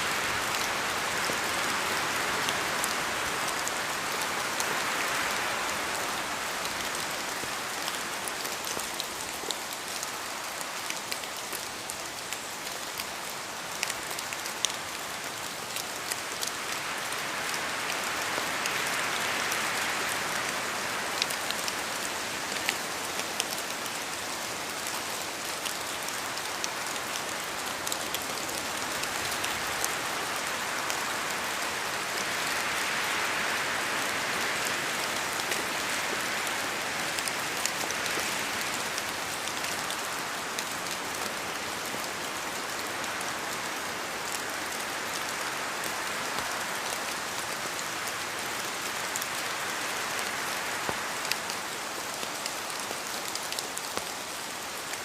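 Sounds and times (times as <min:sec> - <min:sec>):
rain hiss in forest: 0:00.0 - 0:55.0.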